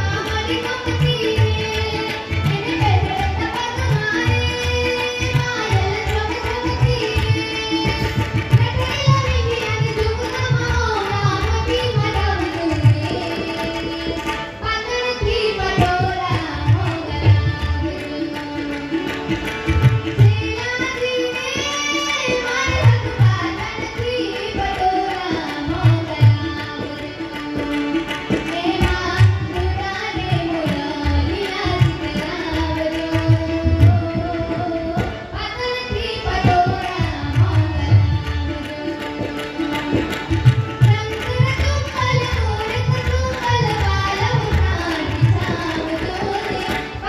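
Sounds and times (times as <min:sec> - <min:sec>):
tabla playing: 0:00.0 - 0:47.0.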